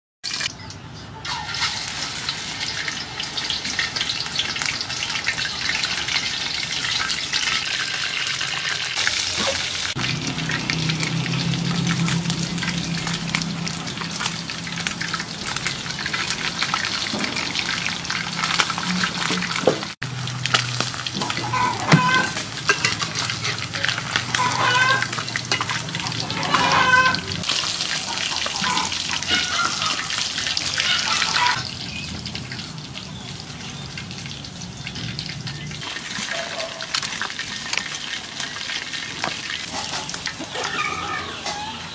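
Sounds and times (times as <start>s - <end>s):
deep-frying sizzling in oil: 0.2s - 41.9s.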